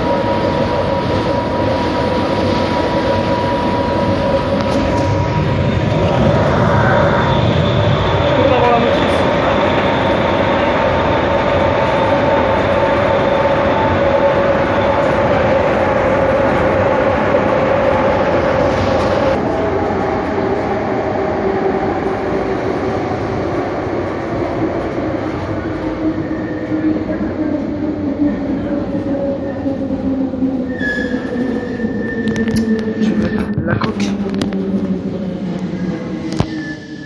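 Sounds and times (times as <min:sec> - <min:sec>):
train running and rail noise: 0:00.0 - 0:37.0.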